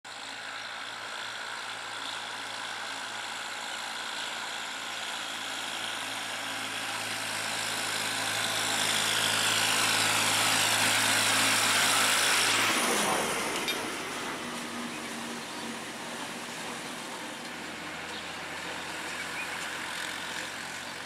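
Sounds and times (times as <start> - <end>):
tractor diesel engine running: 0.1 - 21.0.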